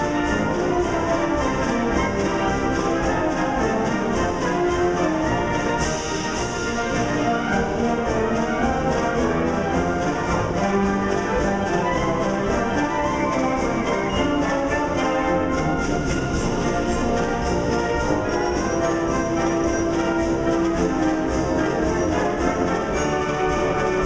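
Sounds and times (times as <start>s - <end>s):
concert band playing: 0.0s - 24.0s.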